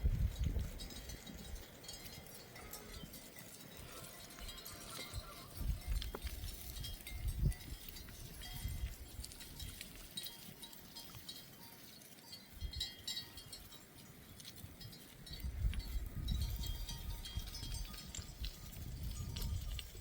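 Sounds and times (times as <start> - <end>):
livestock bells tinkling: 0.0 - 20.0.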